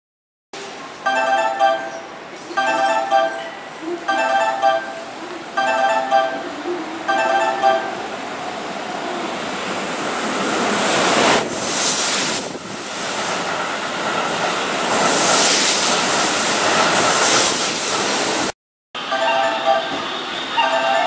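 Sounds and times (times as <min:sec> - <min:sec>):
train wheel and rail noise: 0:00.6 - 0:21.0.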